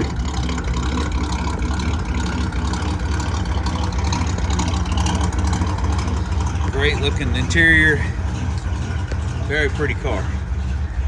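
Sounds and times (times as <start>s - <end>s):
vee-eight engine idling: 0.0s - 11.0s.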